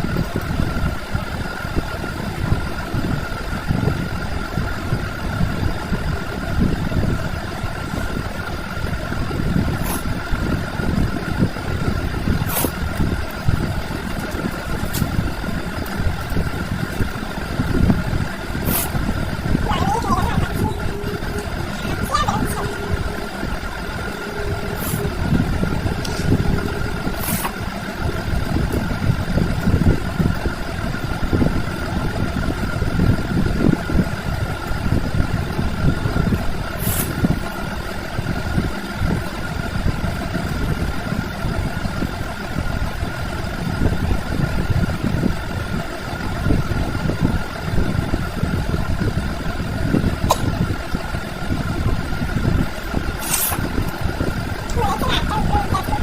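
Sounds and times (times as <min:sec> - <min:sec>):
high-pitched whine: 0:00.0 - 0:56.0
low rumbling drone: 0:00.0 - 0:56.0.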